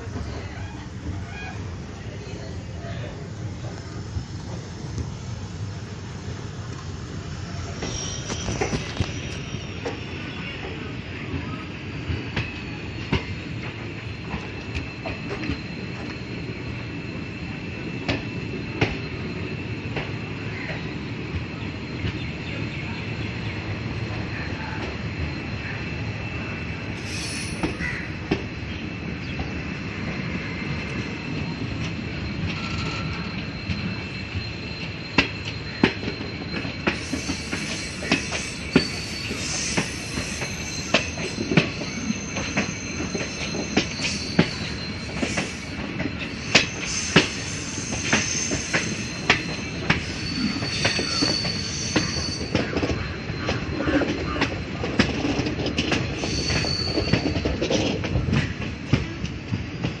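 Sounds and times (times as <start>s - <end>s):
train wheels rumbling on rails: 0.0s - 60.0s
high wheel squeals: 0.1s - 60.0s.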